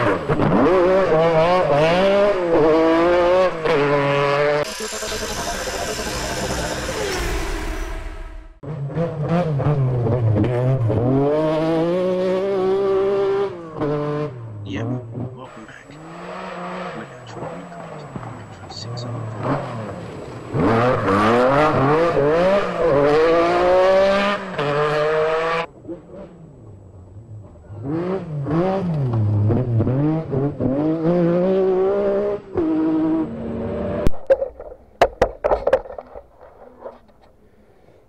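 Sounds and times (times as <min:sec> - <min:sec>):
rally car engine at full throttle: 0:00.0 - 0:37.7.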